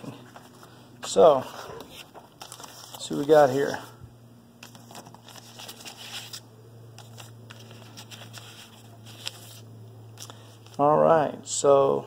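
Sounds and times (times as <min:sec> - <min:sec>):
steady low hum: 0:00.0 - 0:12.0
paper crinkling: 0:00.2 - 0:04.0, 0:04.6 - 0:10.9.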